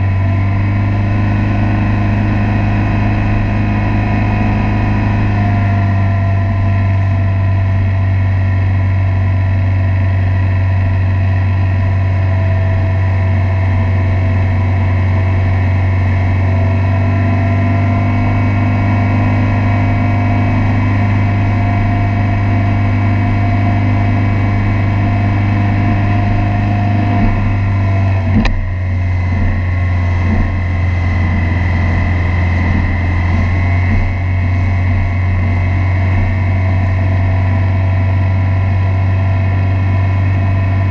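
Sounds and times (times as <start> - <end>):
motorboat engine droning: 0.0 - 40.9.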